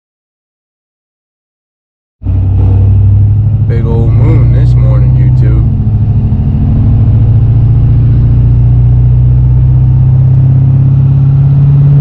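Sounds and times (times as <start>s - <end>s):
vehicle engine droning: 2.2s - 12.0s.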